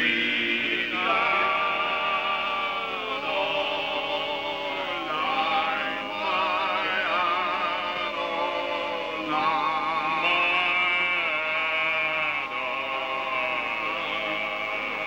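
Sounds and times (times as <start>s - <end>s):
person singing with vibrato: 0.0s - 15.0s.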